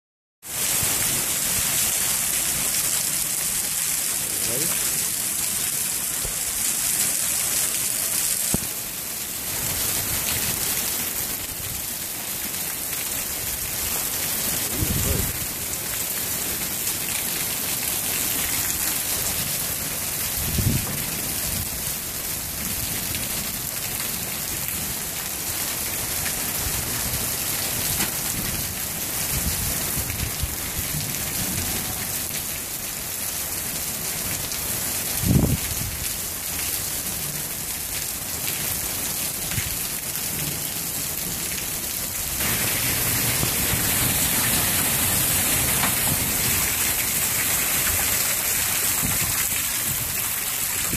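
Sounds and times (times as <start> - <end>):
heavy rain pouring: 0.4 - 50.9.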